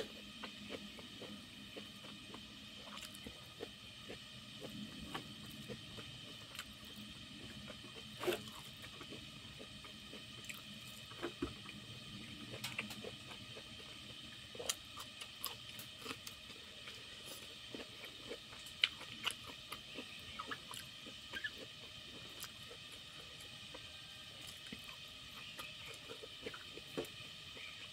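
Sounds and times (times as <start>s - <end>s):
chewing: 0.0s - 27.8s.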